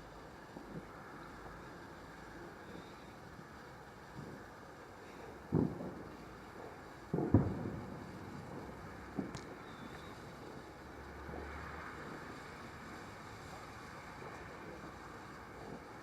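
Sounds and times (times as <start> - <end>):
distant fireworks bangs: 2.5 - 16.0.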